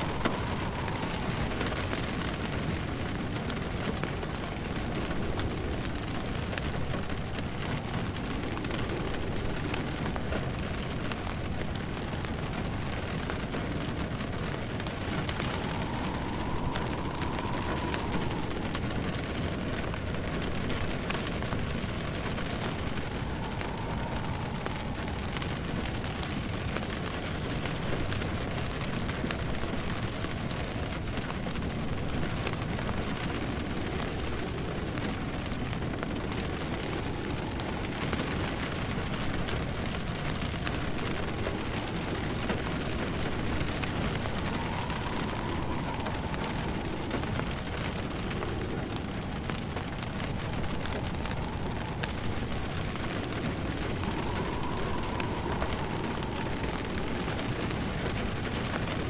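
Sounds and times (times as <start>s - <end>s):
faint wind whistle: 0.0s - 59.0s
steady rain: 0.0s - 59.0s
wood fire crackling: 0.0s - 59.0s.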